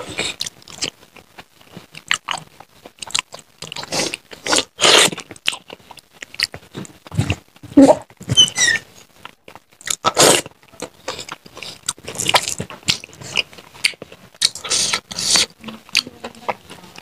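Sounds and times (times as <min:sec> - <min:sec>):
wet chewing and lip-smacking: 0:00.2 - 0:06.7, 0:09.2 - 0:17.0.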